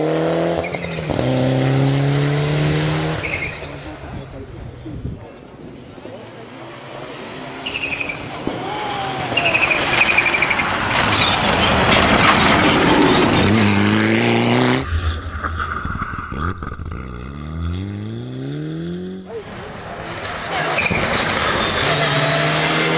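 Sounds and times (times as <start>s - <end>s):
rally car engine accelerating: 0.0s - 4.4s, 6.3s - 22.9s.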